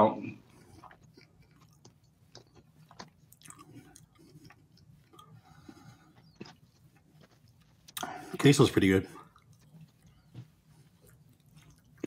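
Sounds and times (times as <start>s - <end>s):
faint chewing: 0.3s - 12.0s.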